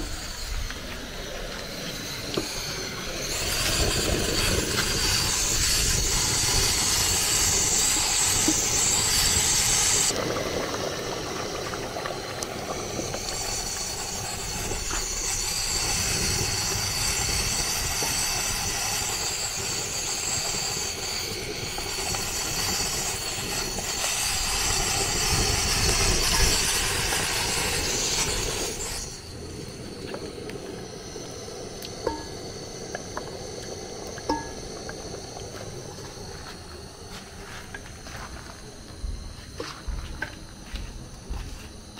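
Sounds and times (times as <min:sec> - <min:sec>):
oil sizzling in a pot: 0:00.0 - 0:38.9.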